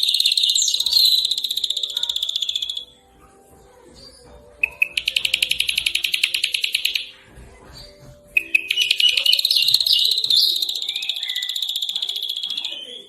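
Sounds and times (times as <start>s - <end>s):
songbird buzzy trill: 0.0s - 13.0s.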